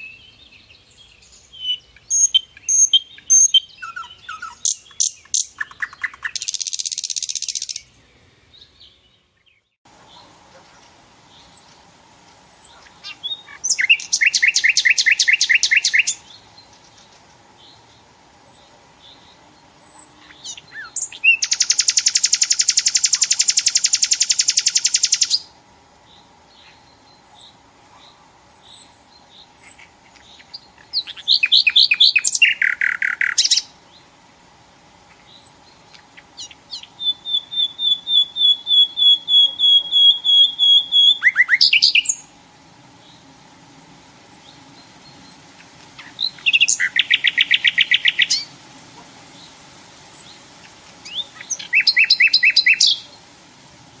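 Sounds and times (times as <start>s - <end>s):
nightingale singing: 0.0s - 34.2s, 35.0s - 42.4s, 44.0s - 48.6s, 49.3s - 53.4s
faint steady hum: 7.7s - 54.0s.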